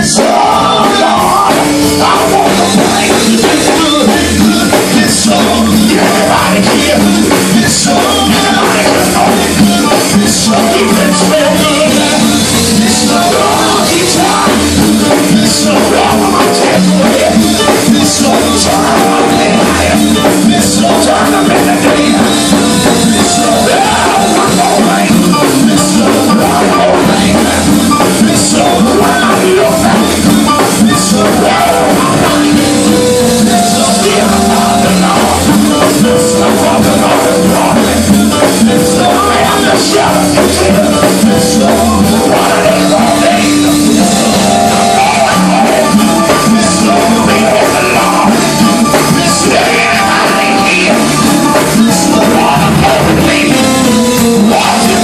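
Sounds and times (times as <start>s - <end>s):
church band playing gospel: 0.0s - 55.0s
people singing: 0.0s - 55.0s.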